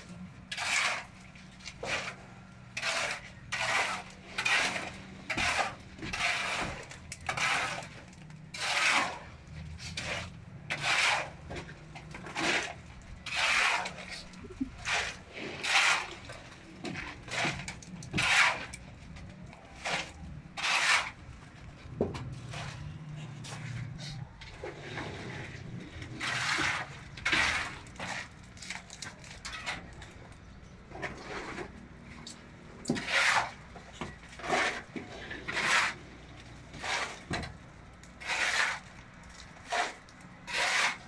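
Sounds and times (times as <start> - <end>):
hand tool scraping strokes: 0.5 - 18.8, 19.6 - 21.3, 22.4 - 28.4, 30.9 - 41.0.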